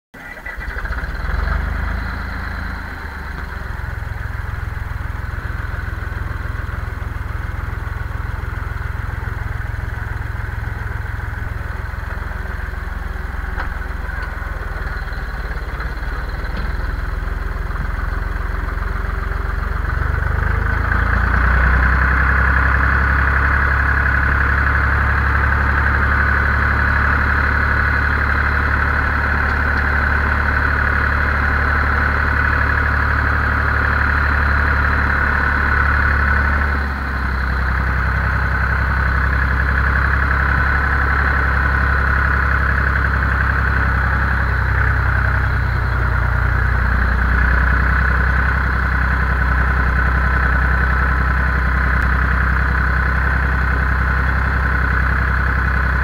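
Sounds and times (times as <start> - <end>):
tractor diesel engine running: 0.1 - 56.0.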